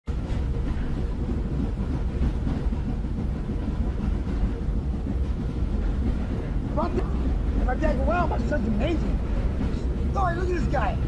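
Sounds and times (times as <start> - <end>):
light-rail car low rumble: 0.1 - 11.0.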